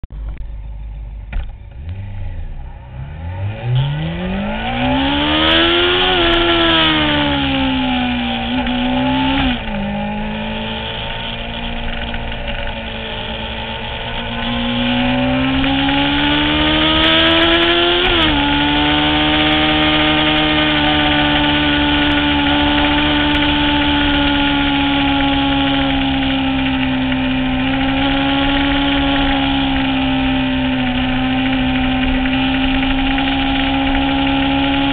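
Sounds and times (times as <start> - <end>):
motorcycle engine accelerating hard: 0.3 - 34.9.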